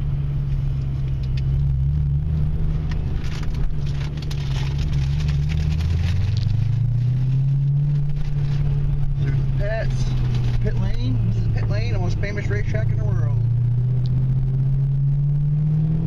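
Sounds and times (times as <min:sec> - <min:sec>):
car engine drone from inside cabin: 0:00.0 - 0:16.0.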